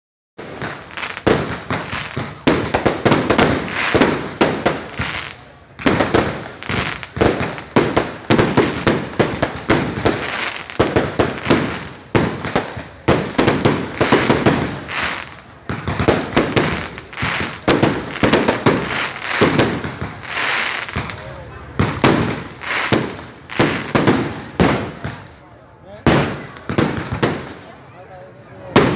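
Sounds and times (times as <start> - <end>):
fireworks bangs and crackles: 0.4 - 28.9.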